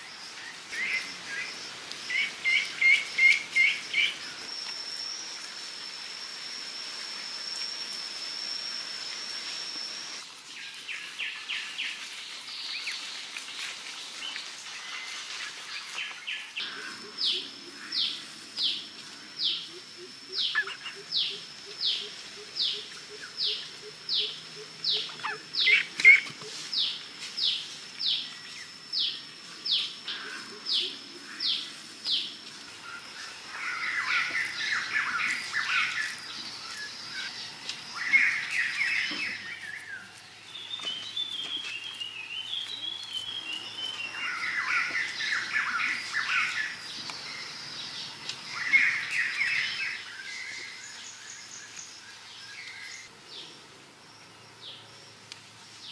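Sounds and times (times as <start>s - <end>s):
birds chattering calls: 0.0s - 5.1s, 10.5s - 53.6s.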